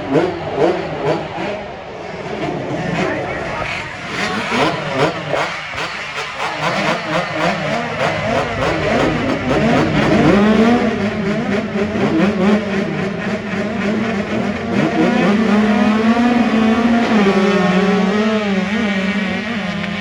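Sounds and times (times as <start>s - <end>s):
motocross engines revving: 0.0s - 20.0s.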